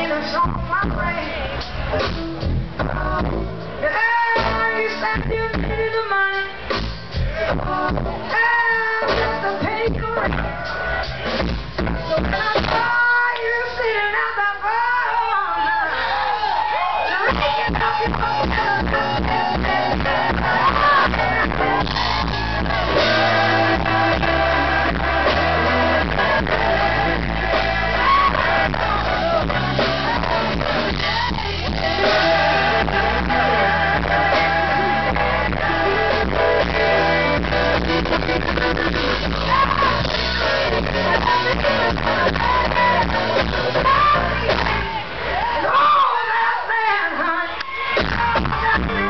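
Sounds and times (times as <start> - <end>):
woman singing: 0.0 - 1.7, 2.8 - 6.6, 7.5 - 10.5, 12.1 - 15.8, 17.1 - 45.0
blues-rock band playing: 0.0 - 13.8, 17.1 - 45.5.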